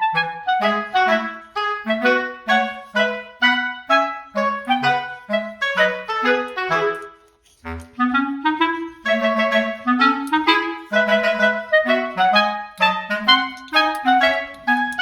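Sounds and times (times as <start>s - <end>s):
bouncy woodwind melody: 0.0s - 15.0s.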